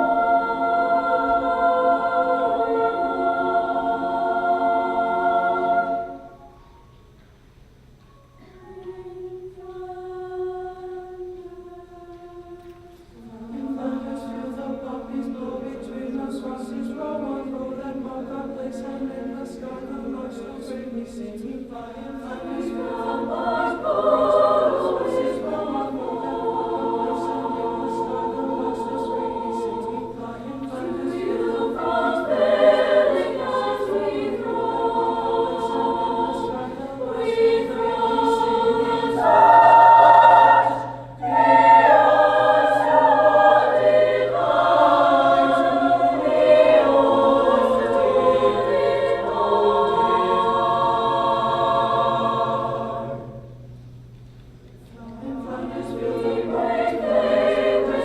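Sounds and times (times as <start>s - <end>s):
choir singing sustained chords: 0.0s - 58.0s.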